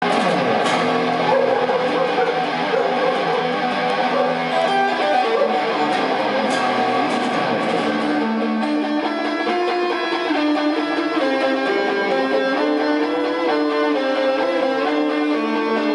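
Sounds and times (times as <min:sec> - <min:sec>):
rock music with electric guitar: 0:00.0 - 0:15.9.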